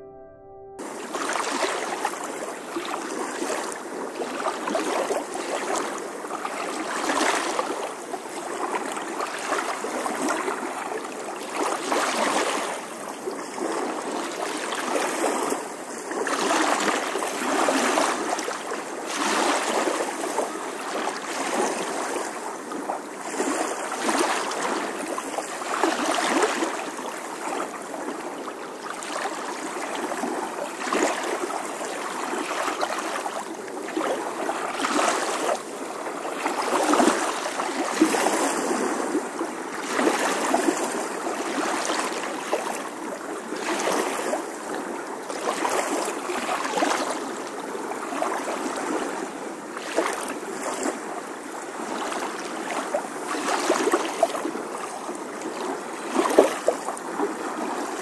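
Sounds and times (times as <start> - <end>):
water rushing and splashing: 0.8 - 58.0.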